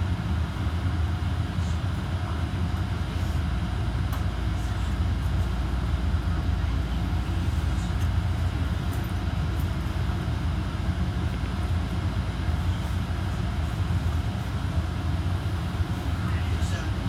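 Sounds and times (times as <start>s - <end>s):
tram cabin rumble and hum: 0.0s - 17.0s.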